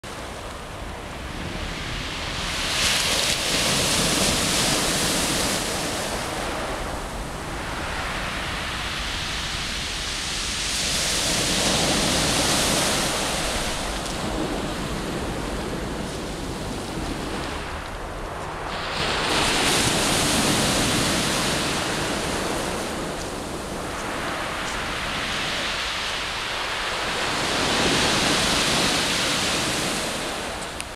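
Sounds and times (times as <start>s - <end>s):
surf washing up pebble beach: 0.1s - 30.9s.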